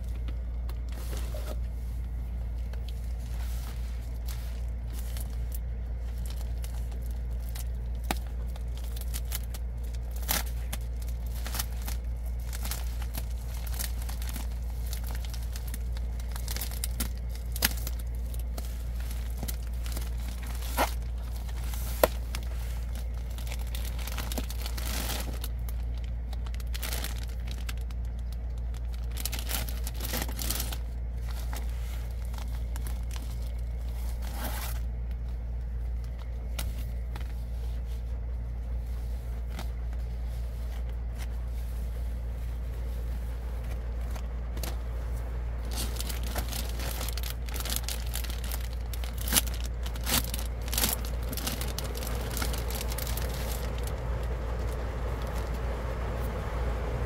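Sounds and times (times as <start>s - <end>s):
low hum: 0.0s - 57.0s
plastic mailer tearing and crinkling: 2.5s - 38.4s, 43.1s - 55.6s.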